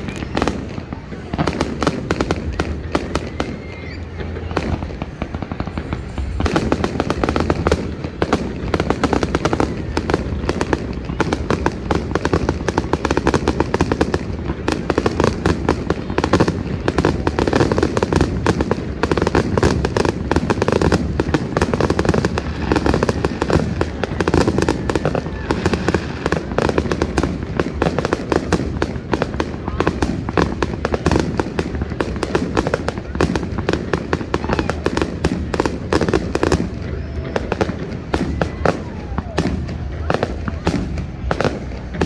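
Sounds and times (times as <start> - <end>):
fireworks crackling and banging: 0.0 - 42.0.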